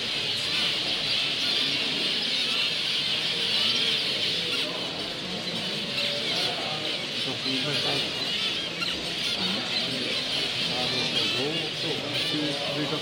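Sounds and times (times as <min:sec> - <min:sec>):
finches chattering: 0:00.0 - 0:13.0.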